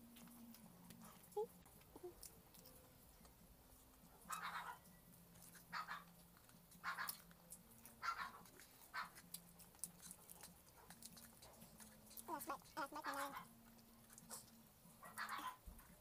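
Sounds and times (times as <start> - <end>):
person chewing with wet smacks: 0.0 - 16.0.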